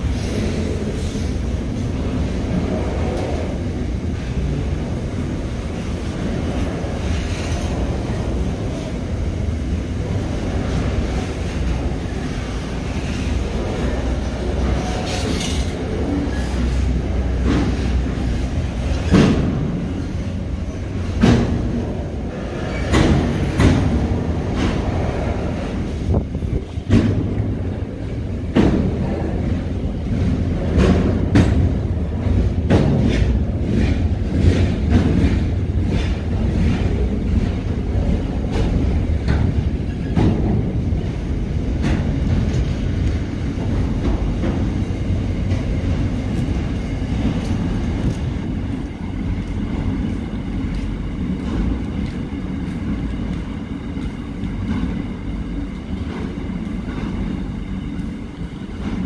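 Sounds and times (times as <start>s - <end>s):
freight train rumbling past: 0.0s - 59.0s
wheels and wagons clanking: 0.0s - 59.0s.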